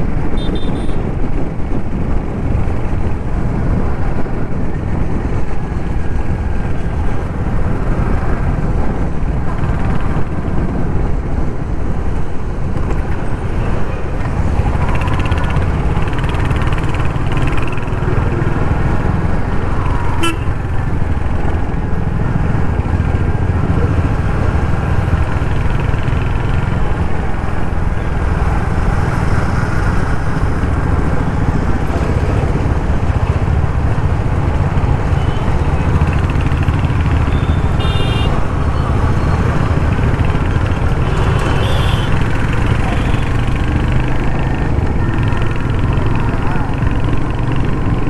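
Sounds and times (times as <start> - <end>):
motorcycle engine running: 0.1 - 48.0.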